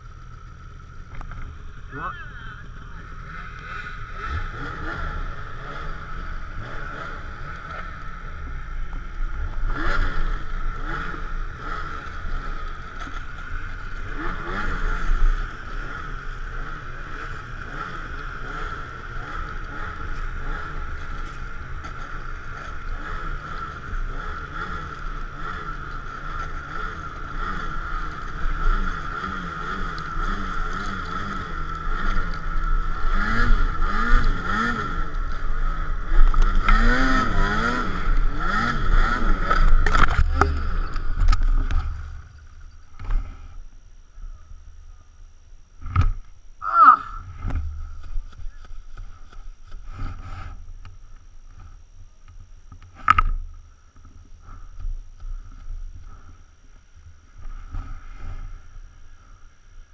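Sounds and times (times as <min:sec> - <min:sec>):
snowmobile engine whine: 0:00.0 - 0:59.9.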